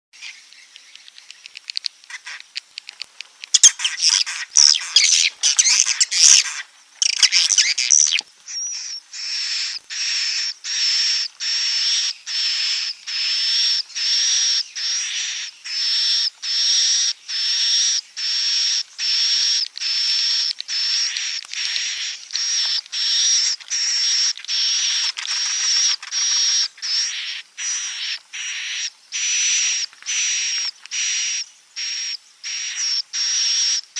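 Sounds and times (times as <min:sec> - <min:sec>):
swiftlet calls: 0:03.5 - 0:33.8.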